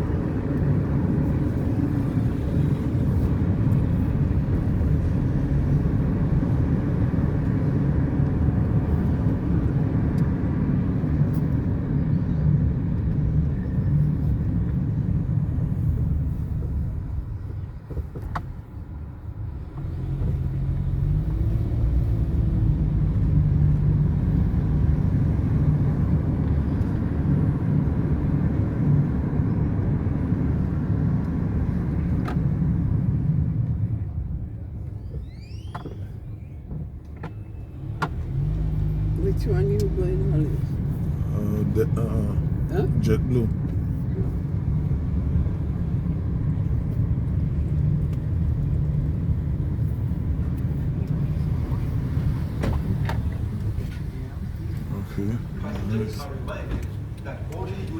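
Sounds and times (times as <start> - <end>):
car engine and road rumble: 0.0 - 57.9.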